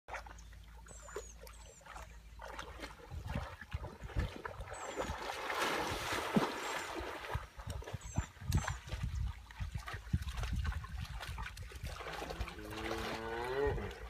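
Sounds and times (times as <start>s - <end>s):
calves splashing through water: 0.1s - 14.0s.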